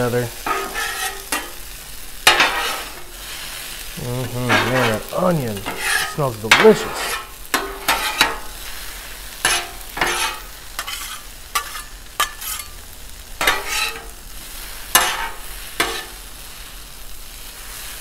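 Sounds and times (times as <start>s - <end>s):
metal spatulas scraping on griddle: 0.0s - 16.7s
food sizzling: 0.0s - 18.0s.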